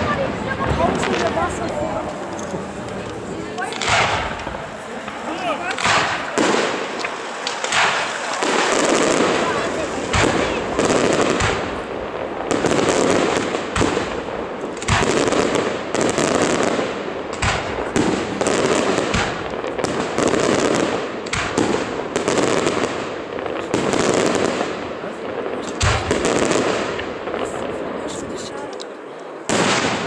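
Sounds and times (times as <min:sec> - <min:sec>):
continuous noisy wash: 0:00.0 - 0:30.0
firework shells bursting: 0:00.0 - 0:30.0.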